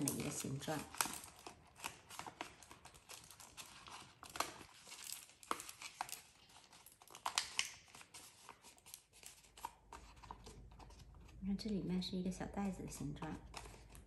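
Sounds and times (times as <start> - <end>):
paper envelope crinkling: 0.0 - 11.8, 12.7 - 14.0.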